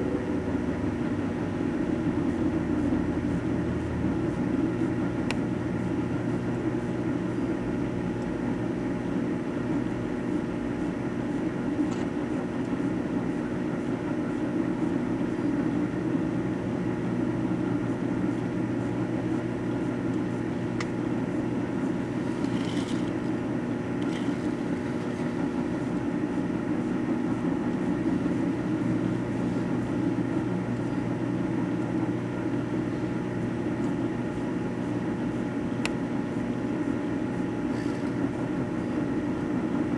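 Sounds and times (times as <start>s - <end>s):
microwave oven hum: 0.0s - 39.9s.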